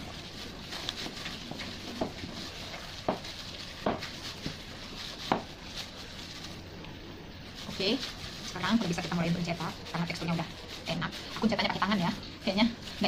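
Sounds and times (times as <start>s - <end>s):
gloved hand squeezing sticky dough: 0.0s - 13.0s.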